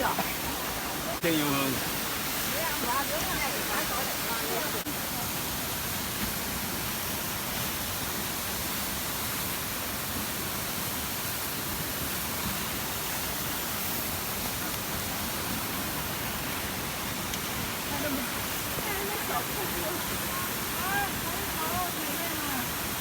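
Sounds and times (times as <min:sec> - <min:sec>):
waterfall roaring onto rocks: 0:00.0 - 0:23.0.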